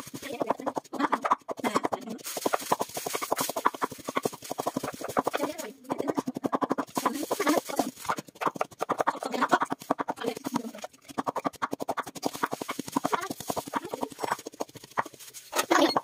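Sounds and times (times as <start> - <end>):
animal-like clucking calls: 0.0 - 16.0
fast clicking rhythm: 0.0 - 16.0.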